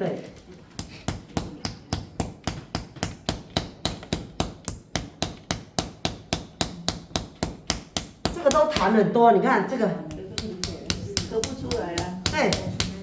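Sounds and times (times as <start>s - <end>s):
hands slapping bare back: 0.7s - 8.9s, 10.1s - 13.0s.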